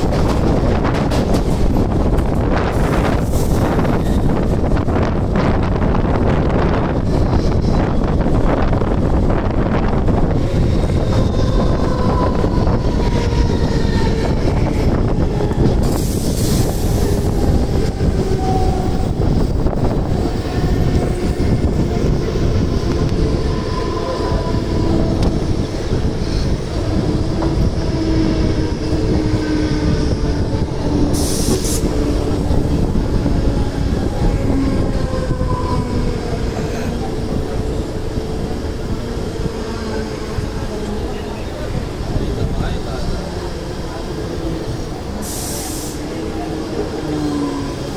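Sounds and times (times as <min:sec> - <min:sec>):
train wheels rumbling on track: 0:00.0 - 0:47.9
wind: 0:00.0 - 0:47.9.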